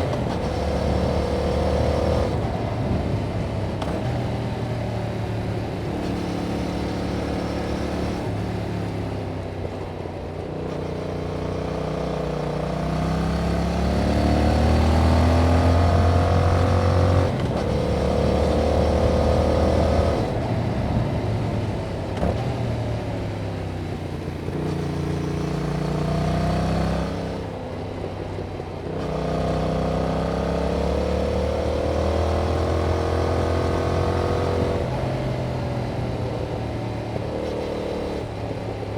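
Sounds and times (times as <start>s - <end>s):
motorcycle engine revving: 0.0s - 9.2s, 10.5s - 38.9s.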